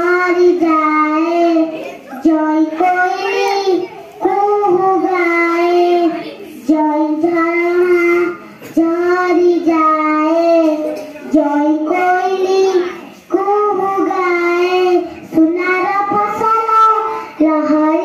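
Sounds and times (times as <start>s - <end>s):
girl singing into microphone: 0.0s - 18.0s.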